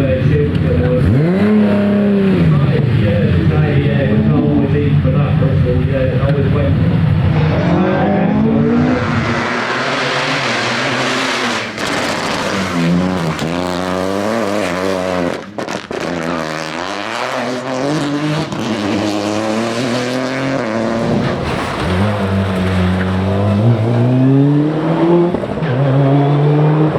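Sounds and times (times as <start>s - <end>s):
rally car engine revving hard: 0.0s - 26.9s.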